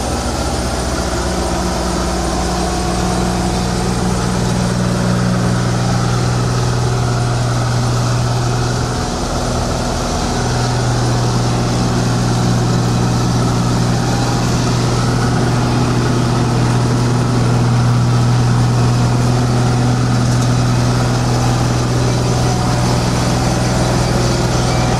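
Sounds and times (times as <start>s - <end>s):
combine harvester running: 0.0s - 24.9s.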